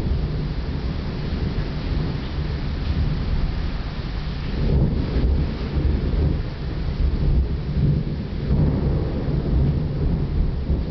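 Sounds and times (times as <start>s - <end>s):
heavy rain: 0.0s - 10.9s
rolling thunder: 0.0s - 10.9s.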